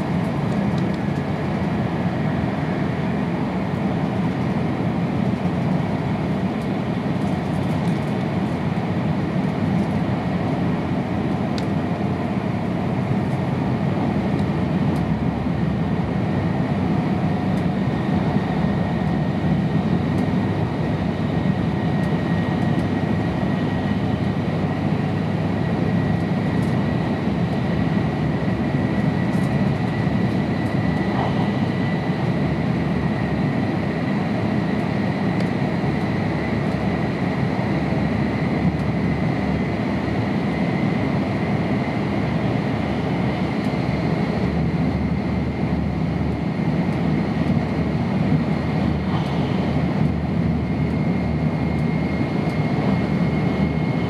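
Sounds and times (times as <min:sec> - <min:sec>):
high-speed train interior rumble: 0:00.0 - 0:54.0.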